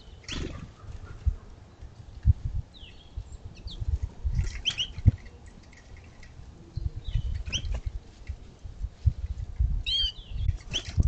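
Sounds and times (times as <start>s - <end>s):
small songbirds chirping: 0.0s - 8.5s, 9.1s - 11.0s.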